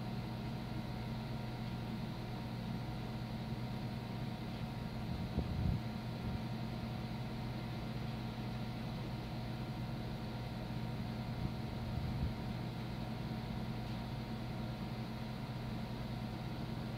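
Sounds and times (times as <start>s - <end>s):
computer fans and pump humming: 0.0s - 16.9s.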